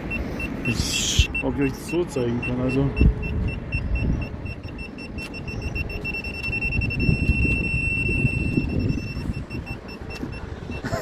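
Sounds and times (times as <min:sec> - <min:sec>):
parking sensor beeping: 0:00.0 - 0:11.0.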